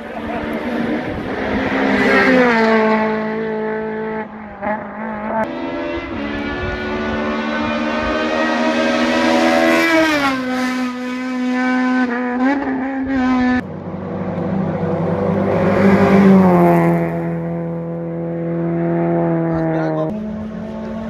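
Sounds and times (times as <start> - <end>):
rally car engines revving: 0.0 - 21.0.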